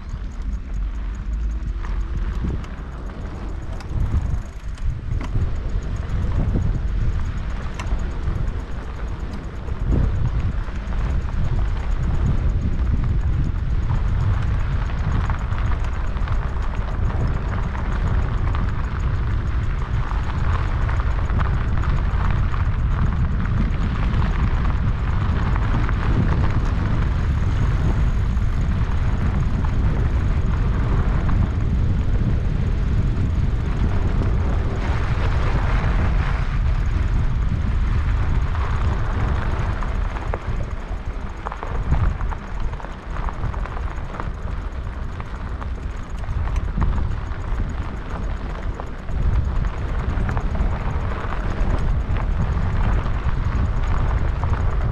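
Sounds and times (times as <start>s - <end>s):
bike tyres on dirt track: 0.0s - 54.9s
wind buffeting microphone: 0.0s - 54.9s.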